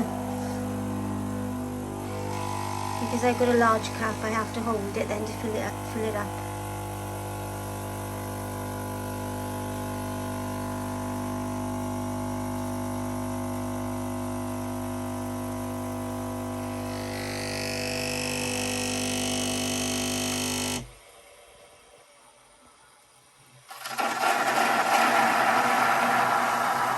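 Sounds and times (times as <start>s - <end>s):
coffee machine pump buzzing: 0.0s - 21.0s, 23.7s - 26.9s.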